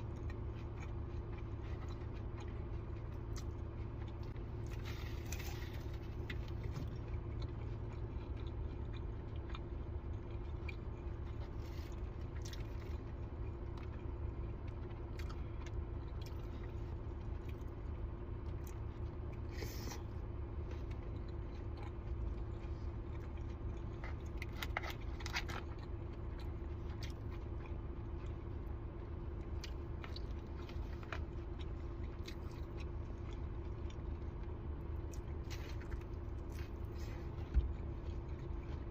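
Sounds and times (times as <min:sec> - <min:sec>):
low hum: 0:00.0 - 0:38.9
person chewing food: 0:00.0 - 0:38.9.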